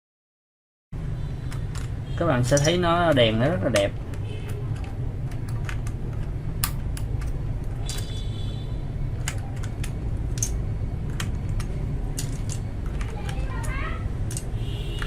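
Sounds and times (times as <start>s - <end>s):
steady low hum: 1.0s - 15.0s
keyboard plastic clicks: 1.5s - 8.1s, 9.2s - 15.0s.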